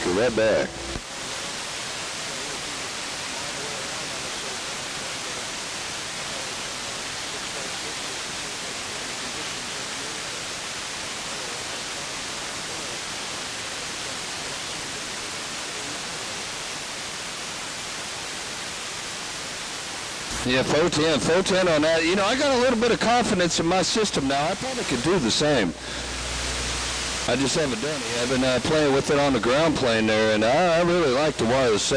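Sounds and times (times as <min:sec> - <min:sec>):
radio static hiss: 0:00.0 - 0:31.9.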